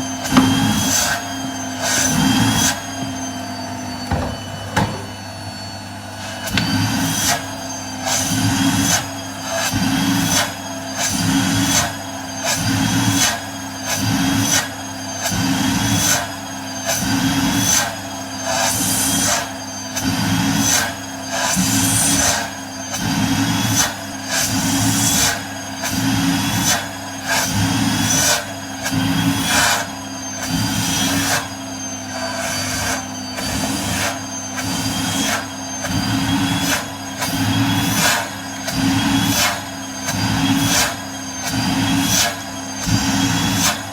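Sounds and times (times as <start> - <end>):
vacuum cleaner suction: 0.0 - 43.9.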